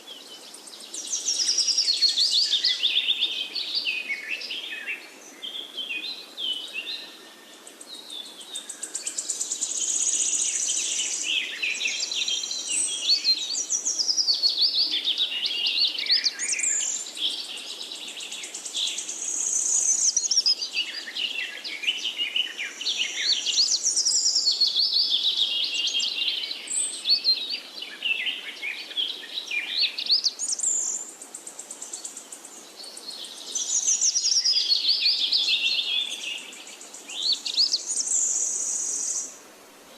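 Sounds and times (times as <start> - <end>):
many birds chirping and singing: 0.0 - 39.4.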